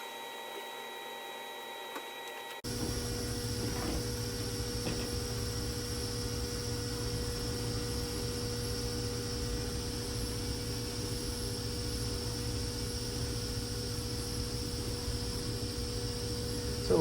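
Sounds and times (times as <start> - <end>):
low electrical hum: 0.0 - 17.0
hot air blower rushing: 2.6 - 17.0.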